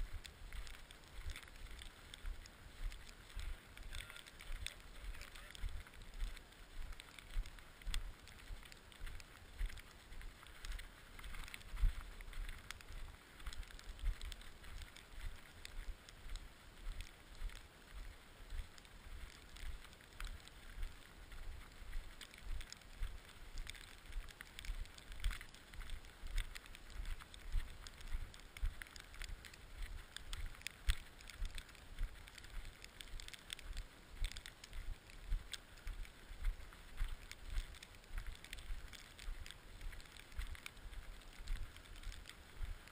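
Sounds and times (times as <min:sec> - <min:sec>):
scattered clicks: 0:00.1 - 0:42.9.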